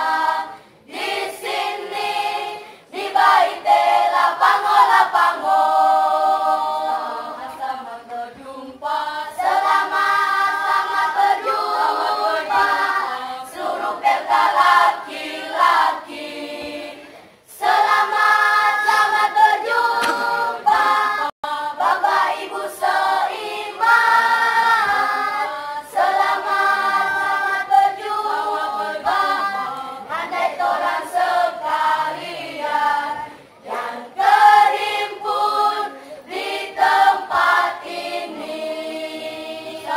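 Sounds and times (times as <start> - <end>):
children's choir singing a cappella: 0.0 - 39.9.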